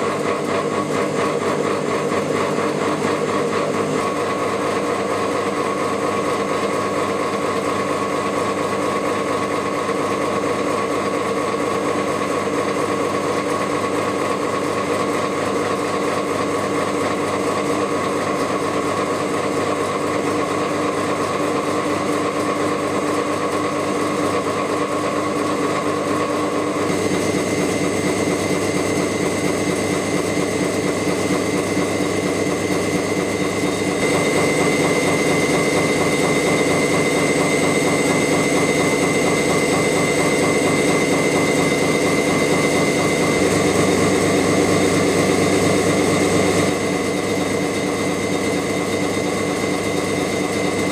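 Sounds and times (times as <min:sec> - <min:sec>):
machinery humming with rattle: 0:00.0 - 0:50.9.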